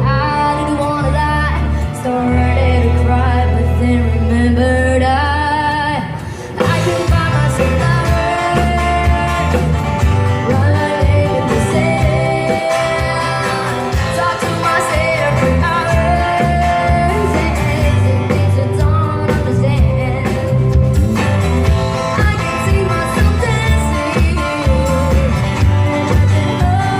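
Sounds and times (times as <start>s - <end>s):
person singing: 0.0s - 20.9s, 22.0s - 26.9s
live band music: 0.0s - 26.9s
steady bass line: 0.0s - 26.9s.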